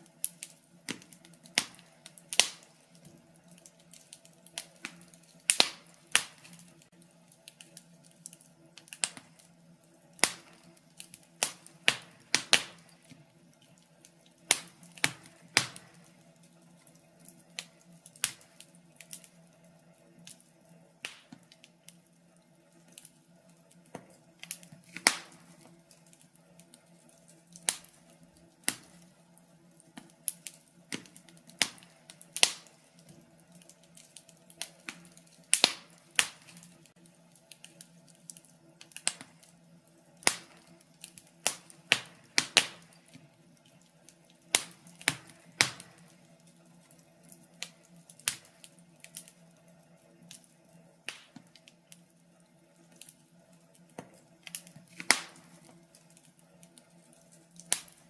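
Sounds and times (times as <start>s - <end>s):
faint steady hum: 0.0s - 58.0s
fire crackling: 0.0s - 58.0s.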